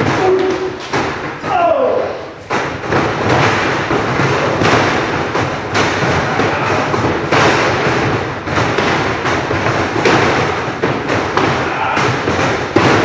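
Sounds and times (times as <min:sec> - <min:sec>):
bodies thudding on wrestling ring: 0:00.0 - 0:13.0.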